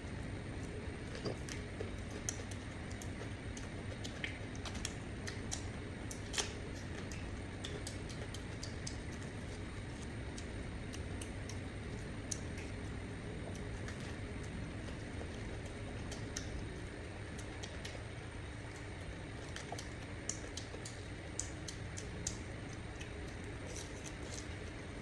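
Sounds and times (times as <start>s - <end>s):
steady low rumble: 0.0s - 25.0s
light clicks and crackles: 0.4s - 25.0s.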